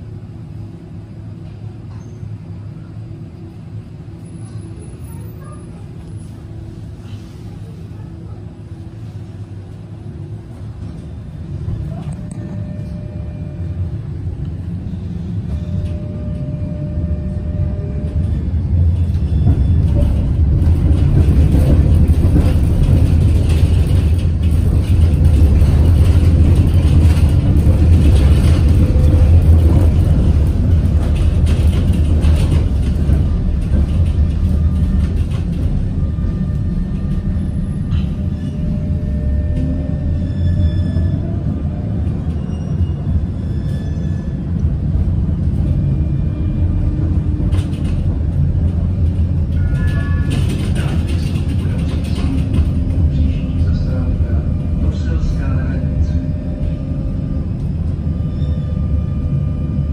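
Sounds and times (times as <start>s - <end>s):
tram wheels rumbling on rails: 0.0s - 59.9s.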